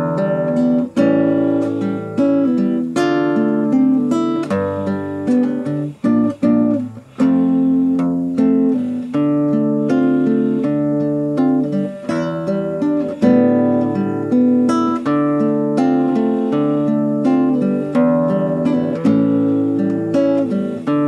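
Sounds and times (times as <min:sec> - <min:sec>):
acoustic guitar strummed chords: 0:00.0 - 0:21.0.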